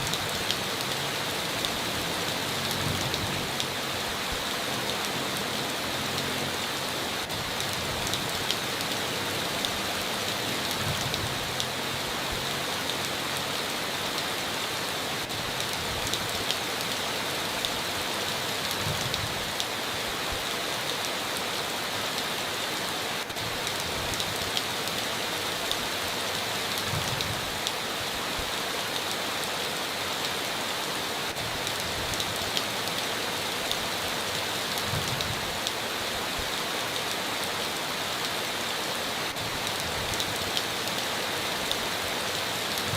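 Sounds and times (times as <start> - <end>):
heavy rain on a tin roof: 0.0 - 42.9.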